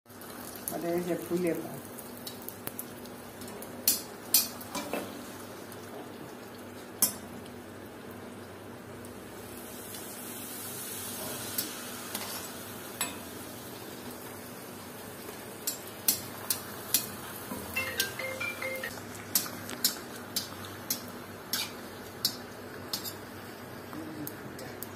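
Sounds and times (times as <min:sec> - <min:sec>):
frying in hot oil sizzle: 0:00.1 - 0:24.9.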